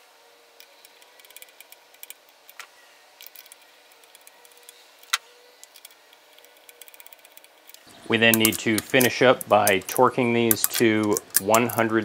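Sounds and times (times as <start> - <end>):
faint steady hum: 0.0 - 12.0
ratchet metal clicks: 0.6 - 12.0.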